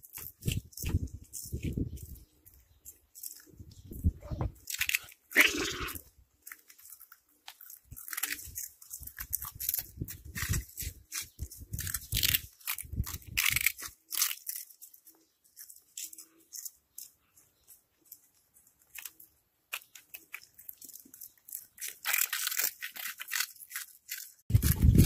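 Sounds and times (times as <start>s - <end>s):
cats crunching snack balls: 0.0s - 25.0s.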